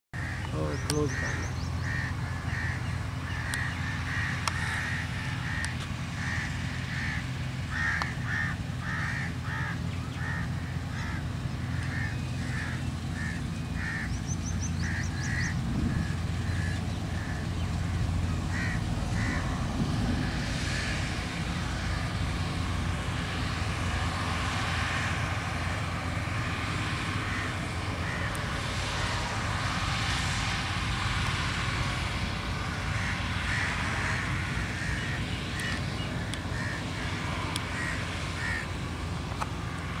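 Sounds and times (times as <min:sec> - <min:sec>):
crows cawing: 0:00.2 - 0:23.3, 0:26.9 - 0:29.8, 0:32.7 - 0:38.8
combine harvester engine drone: 0:00.2 - 0:40.0.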